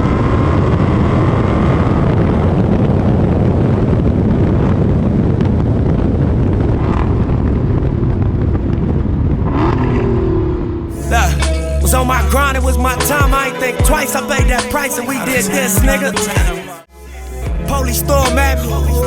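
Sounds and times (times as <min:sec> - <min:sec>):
deep engine rumble: 0:00.0 - 0:14.5, 0:17.0 - 0:19.0.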